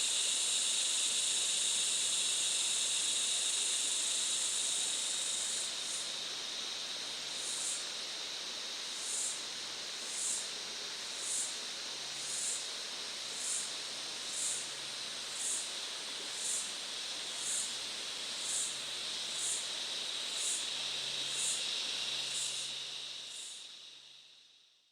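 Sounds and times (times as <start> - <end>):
steady background hiss: 0.0 - 24.9.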